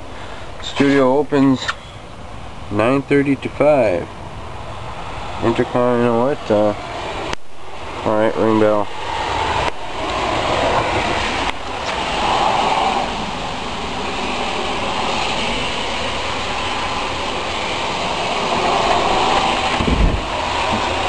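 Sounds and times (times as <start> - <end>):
rushing outdoor noise: 0.0 - 21.0.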